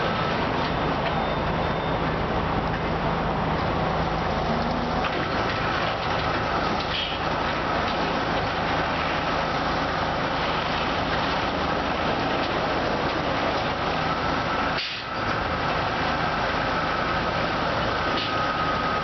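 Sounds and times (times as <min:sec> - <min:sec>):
car wash machine rushing: 0:00.0 - 0:19.0.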